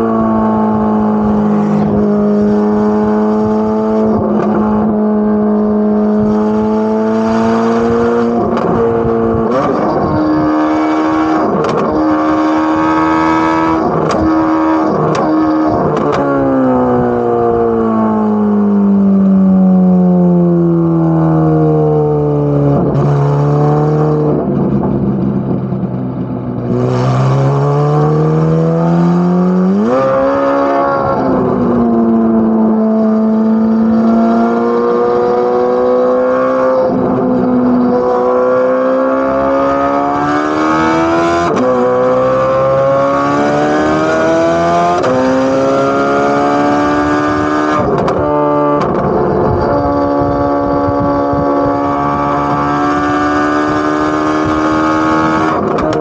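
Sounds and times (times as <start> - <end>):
car exhaust revving: 0.0 - 56.0.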